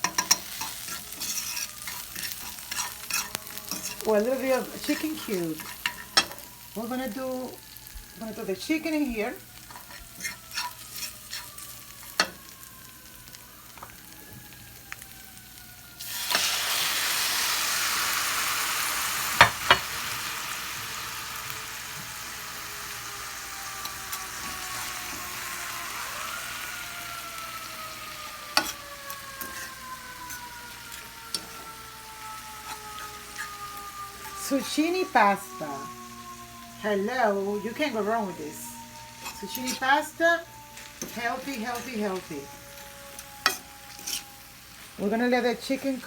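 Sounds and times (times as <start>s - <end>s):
chicken sizzling in hot oil: 0.0s - 46.0s.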